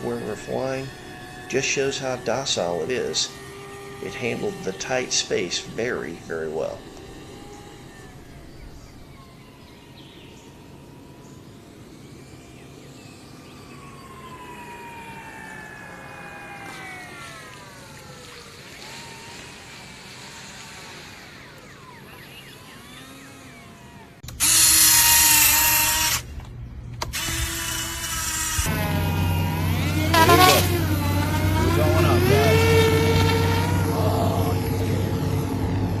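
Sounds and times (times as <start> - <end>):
close-up motor run with hiss: 0.0 - 10.9, 12.0 - 26.3, 27.0 - 36.0
model plane motors whining overhead: 0.0 - 36.0.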